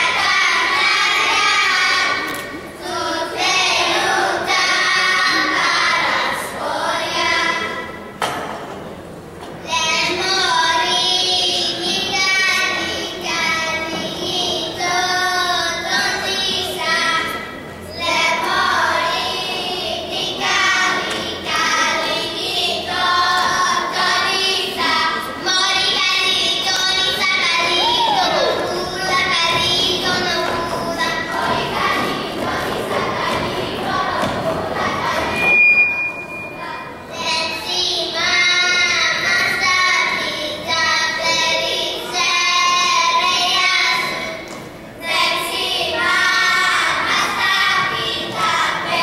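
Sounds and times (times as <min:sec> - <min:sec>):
girls singing in unison: 0:00.0 - 0:08.4, 0:09.6 - 0:49.0.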